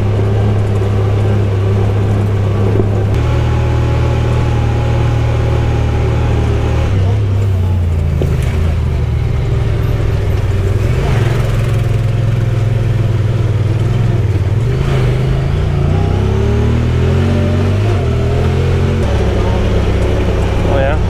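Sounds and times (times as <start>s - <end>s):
utility vehicle engine running: 0.0s - 21.0s.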